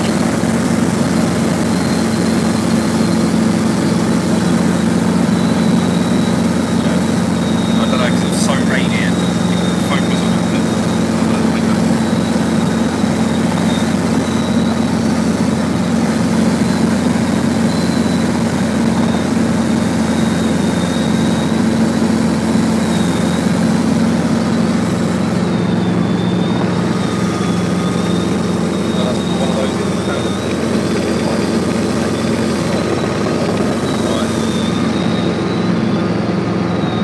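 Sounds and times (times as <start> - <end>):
helicopter engine and rotor drone: 0.0 - 37.0.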